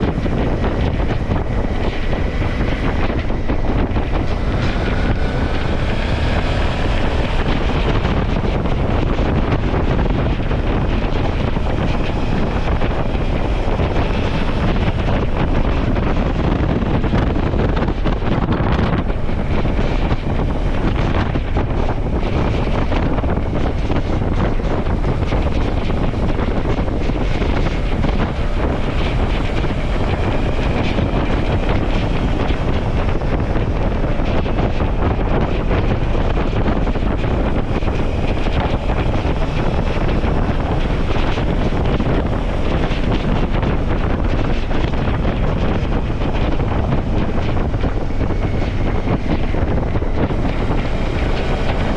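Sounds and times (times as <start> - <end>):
motorcycle engine: 0.0 - 51.9
wind buffeting microphone: 0.0 - 51.9.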